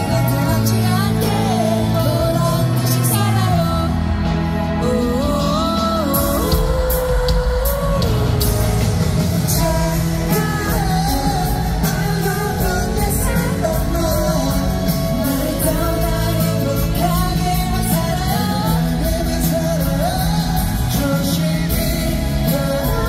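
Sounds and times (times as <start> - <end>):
live band with bass guitar: 0.0 - 23.0
male vocals singing: 0.0 - 23.0.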